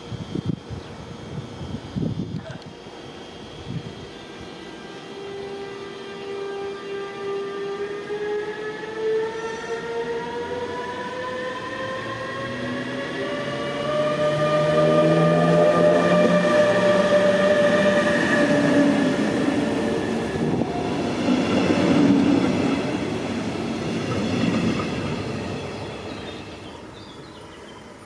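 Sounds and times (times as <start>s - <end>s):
train whine: 0.0s - 28.0s
train wheels rumbling: 3.0s - 28.0s.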